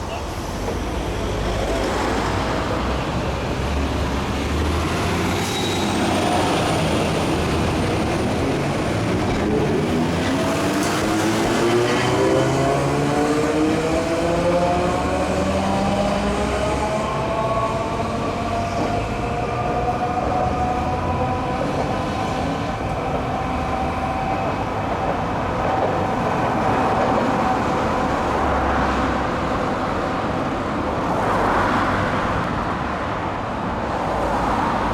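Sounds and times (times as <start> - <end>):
wheels rumbling on rail: 0.0 - 34.9.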